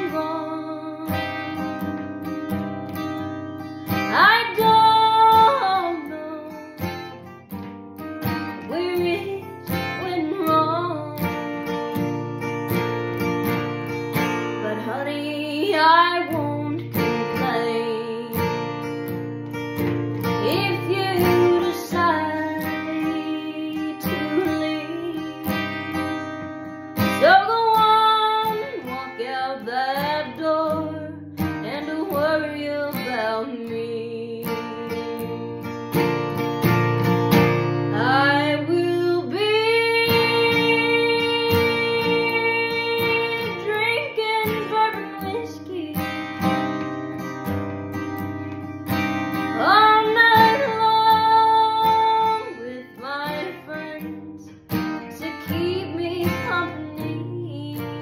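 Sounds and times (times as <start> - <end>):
acoustic guitar strummed: 0.0 - 58.0
woman singing: 0.0 - 58.0.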